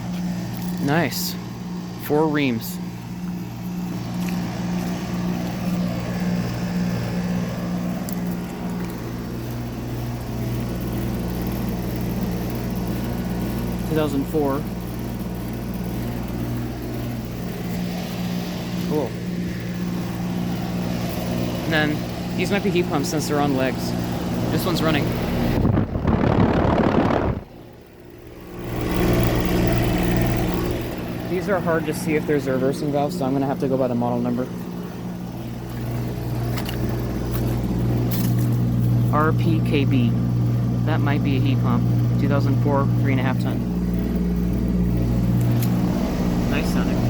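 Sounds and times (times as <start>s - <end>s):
compressor hum: 0.0s - 47.0s
condenser fan rushing: 0.0s - 47.0s.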